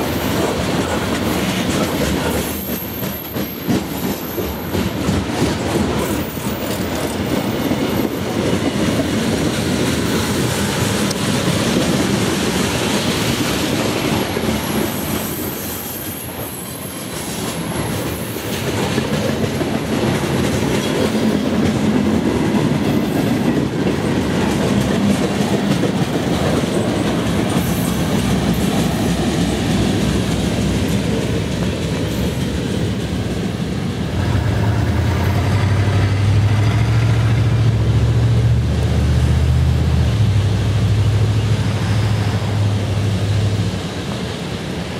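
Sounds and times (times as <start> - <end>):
train wheels clicking on rails: 0.0 - 44.9.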